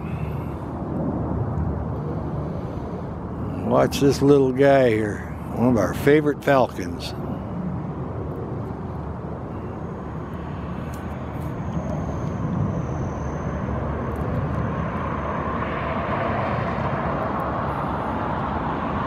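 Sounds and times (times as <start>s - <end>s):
faint high whine: 0.0s - 18.7s
distant engine rumble: 0.0s - 19.0s.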